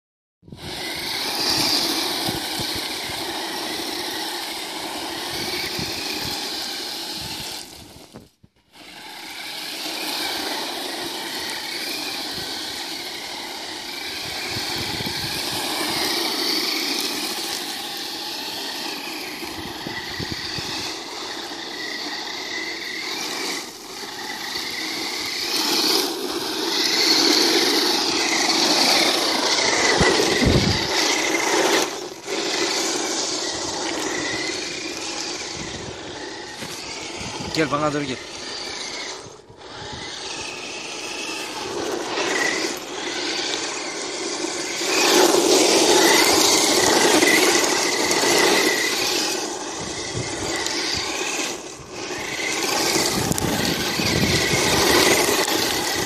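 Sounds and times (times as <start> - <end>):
toy truck motor whining: 0.5 - 56.0
tyres scrabbling over gravel: 0.7 - 56.0.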